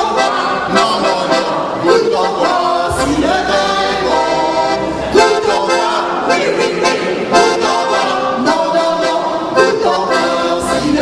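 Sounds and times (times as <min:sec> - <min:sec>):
group singing into microphones: 0:00.0 - 0:11.0
instrumental accompaniment: 0:00.0 - 0:11.0.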